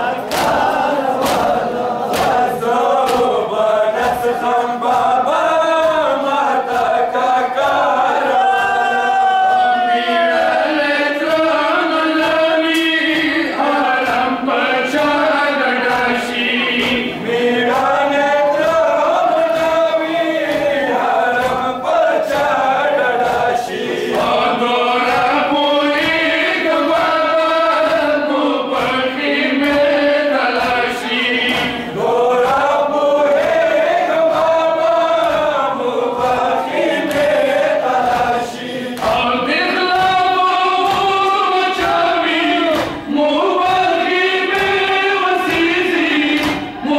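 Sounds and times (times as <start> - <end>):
men chanting in unison: 0.0 - 46.9
hands slapping chests: 0.1 - 8.8, 12.2 - 15.2, 15.8 - 46.9.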